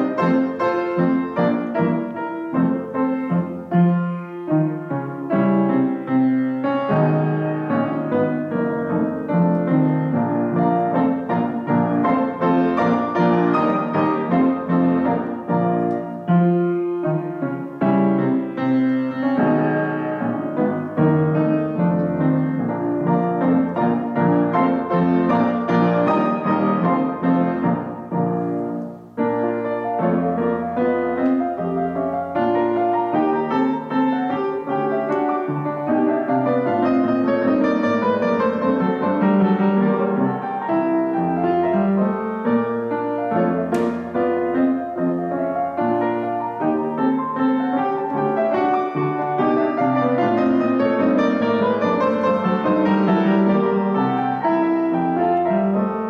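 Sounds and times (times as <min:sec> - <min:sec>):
classical piano duet: 0:00.0 - 0:56.0.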